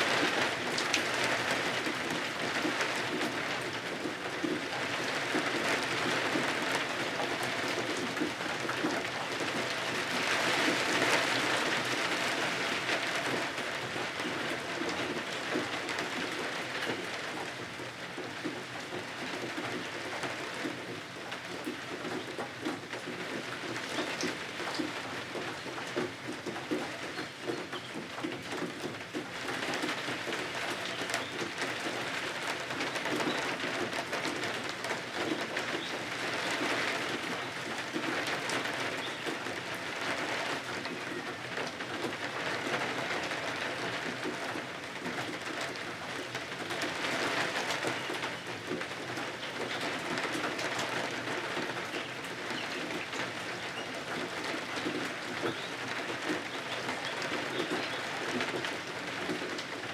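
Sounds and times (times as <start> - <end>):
rain pattering on windows: 0.0 - 59.9.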